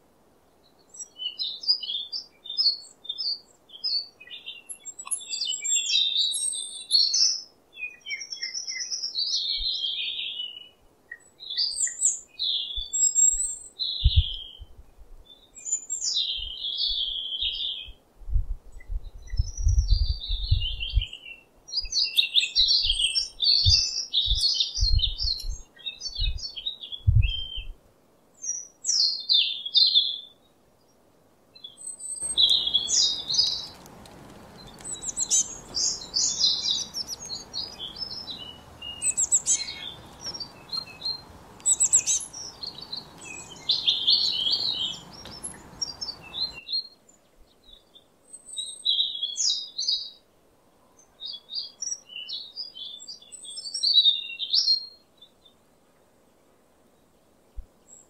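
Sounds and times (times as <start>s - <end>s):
songbirds singing: 0.0s - 18.1s, 18.7s - 58.0s
faint background hiss: 0.0s - 58.0s.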